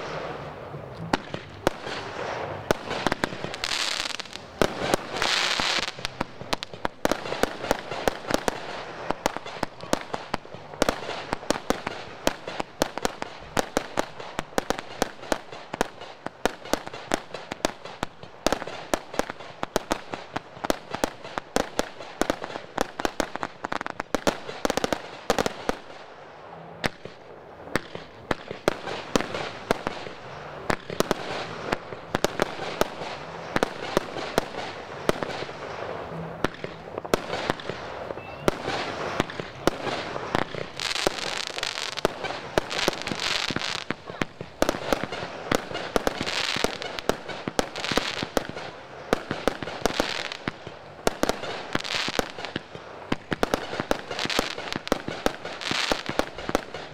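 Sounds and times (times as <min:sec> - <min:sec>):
crackling hiss: 0:00.0 - 0:56.9
fireworks bangs: 0:00.0 - 0:56.9.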